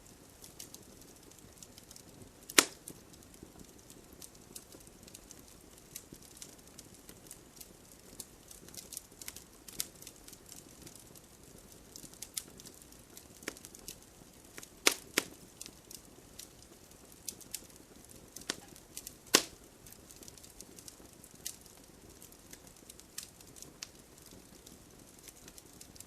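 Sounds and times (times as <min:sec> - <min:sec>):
soft steady hiss: 0:00.0 - 0:26.0
wood fire crackling and popping: 0:00.0 - 0:26.0.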